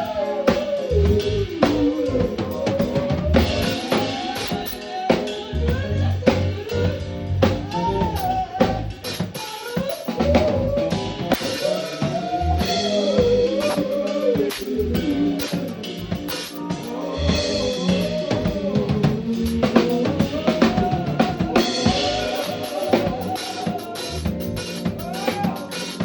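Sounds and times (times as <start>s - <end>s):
bass line: 0.0s - 4.7s, 5.4s - 9.2s, 10.2s - 26.0s
drum kit beat: 0.0s - 26.0s.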